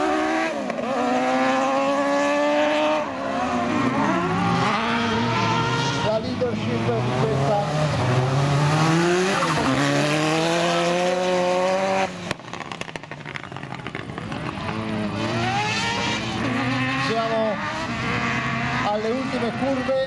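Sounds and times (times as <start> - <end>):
buggy engine at high revs: 0.0 - 20.0
distant car engines accelerating: 0.0 - 20.0.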